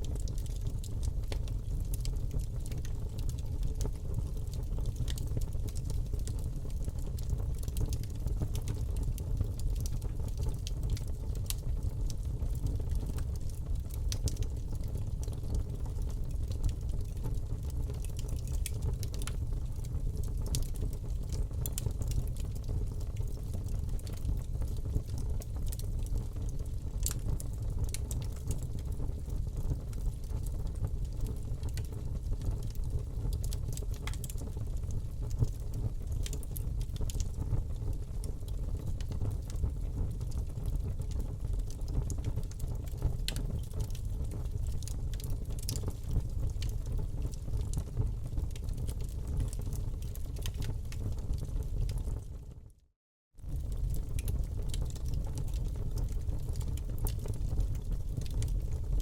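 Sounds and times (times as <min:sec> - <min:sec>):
wood crackling and popping: 0:00.1 - 0:28.9, 0:29.8 - 0:37.4, 0:38.5 - 0:51.4, 0:53.5 - 0:57.1, 0:58.2 - 0:58.6
fire rumbling: 0:00.2 - 0:52.2, 0:53.5 - 0:57.1.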